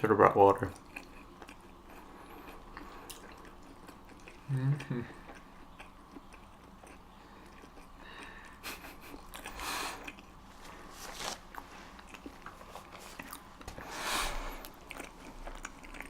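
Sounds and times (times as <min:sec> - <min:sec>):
close chewing: 0:00.4 - 0:16.0.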